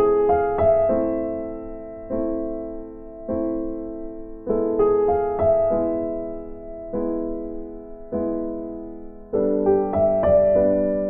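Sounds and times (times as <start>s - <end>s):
slow soft piano music: 0.0s - 11.0s.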